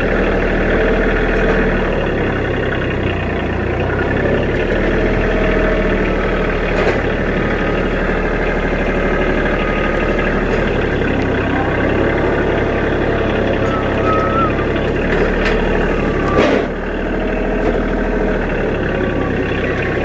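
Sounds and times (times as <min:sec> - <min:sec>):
farm machinery engine running: 0:00.0 - 0:20.0.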